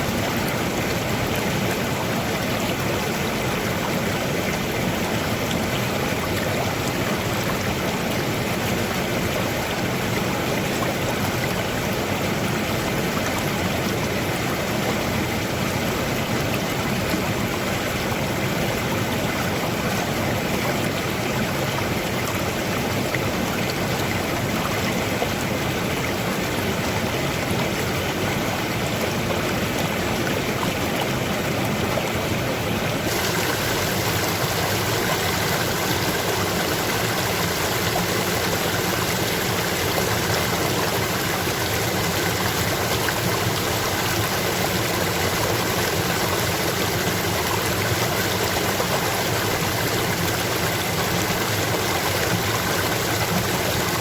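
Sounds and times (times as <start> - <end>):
stream water rushing and gurgling: 0.0 - 54.0.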